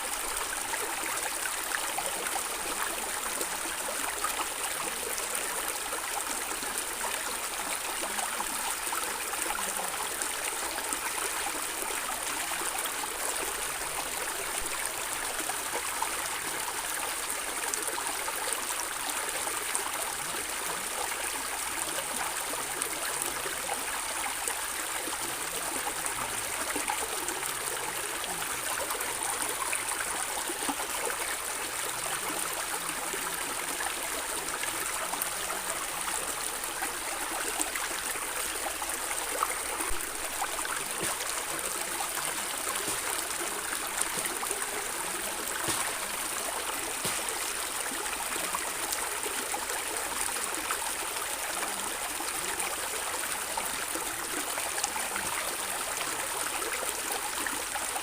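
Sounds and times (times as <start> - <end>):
stream water flowing and gurgling: 0.0 - 58.0.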